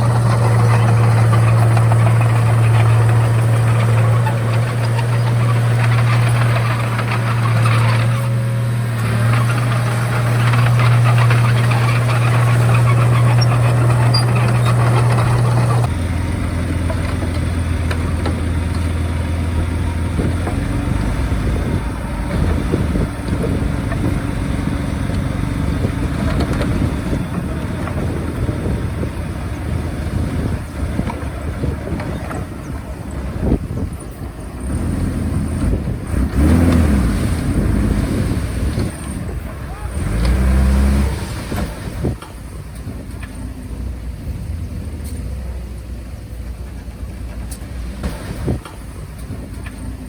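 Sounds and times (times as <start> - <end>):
heavy diesel engine running: 0.0 - 50.0.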